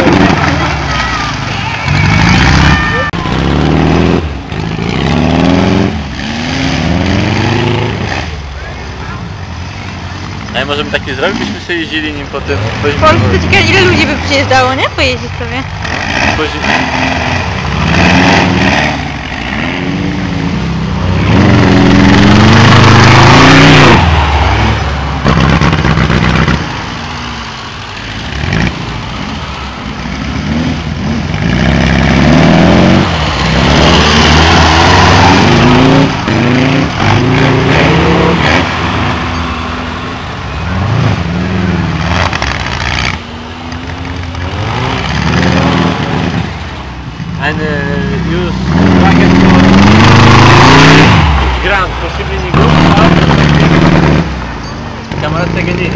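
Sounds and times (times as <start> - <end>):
buggy engines revving: 0.0 - 55.9.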